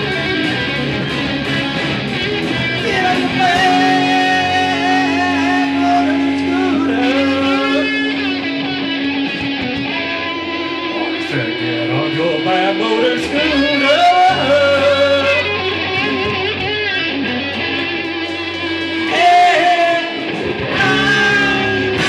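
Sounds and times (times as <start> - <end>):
bass guitar: 0.0 - 22.0
drums: 0.0 - 22.0
electric guitars: 0.0 - 22.0
wavering bending guitar note: 2.2 - 22.0.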